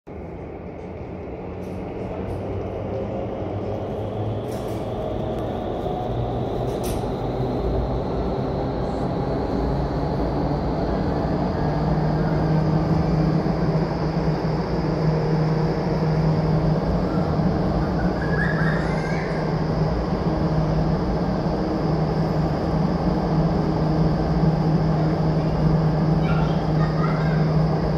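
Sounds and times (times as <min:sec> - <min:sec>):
faint whine rising in pitch: 0:00.1 - 0:26.8
rush of air and fan noise: 0:00.1 - 0:27.9.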